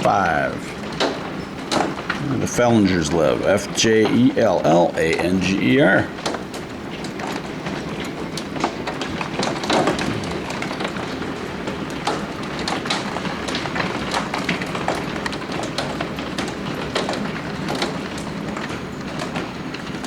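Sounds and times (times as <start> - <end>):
hail clattering: 0.0 - 20.0
rain rushing: 0.0 - 20.0.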